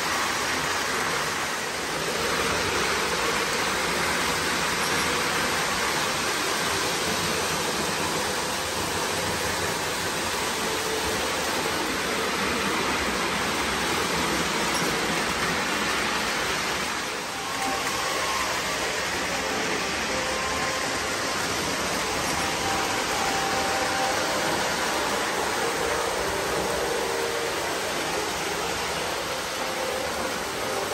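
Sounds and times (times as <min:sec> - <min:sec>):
model train wheels rumbling: 0:00.0 - 0:30.9.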